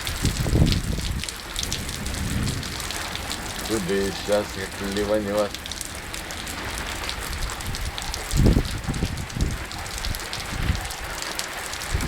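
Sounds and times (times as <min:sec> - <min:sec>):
low thunder rumble: 0:00.0 - 0:11.2
rain falling: 0:00.0 - 0:12.0.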